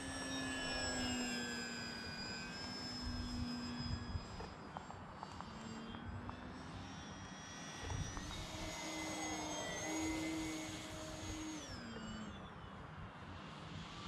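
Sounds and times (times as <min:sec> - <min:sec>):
model plane motor whining: 0:00.0 - 0:14.0.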